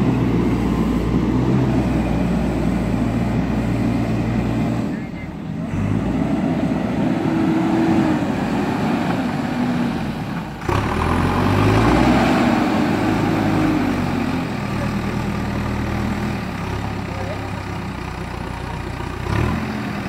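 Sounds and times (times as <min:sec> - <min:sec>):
diesel engine revving under load: 0:00.0 - 0:20.0.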